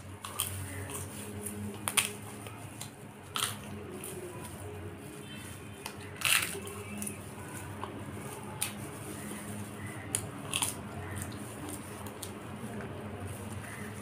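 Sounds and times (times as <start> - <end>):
crunchy chewing: 0.0 - 14.0
low steady hum: 0.0 - 14.0.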